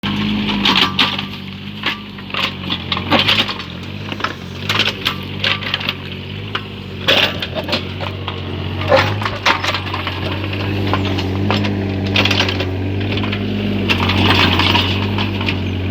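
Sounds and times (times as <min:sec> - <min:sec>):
bucket scraping stony ground: 0:00.0 - 0:15.9
excavator engine running: 0:00.0 - 0:15.9
stones and metal clacking: 0:00.0 - 0:15.9.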